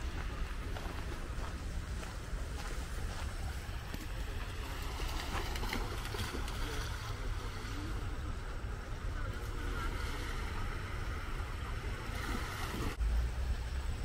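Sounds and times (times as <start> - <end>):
small waves washing onto beach: 0.0 - 13.0.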